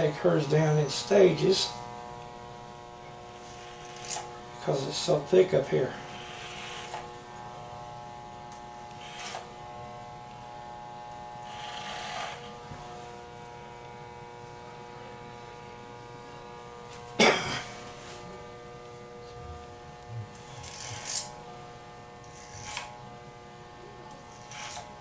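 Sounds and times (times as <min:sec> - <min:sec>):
electric hair clippers humming: 0:00.0 - 0:25.0.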